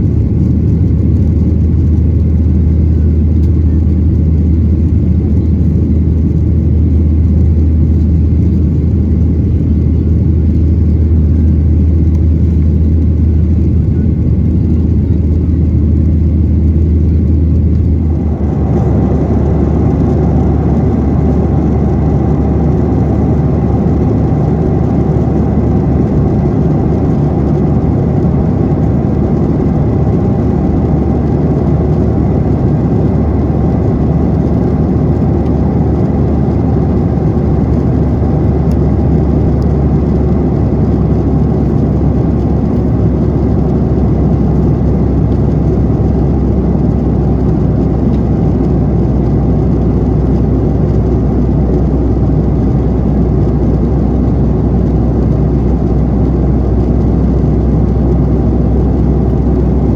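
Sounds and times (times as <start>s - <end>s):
jet engines heard in cabin: 0.0s - 59.9s.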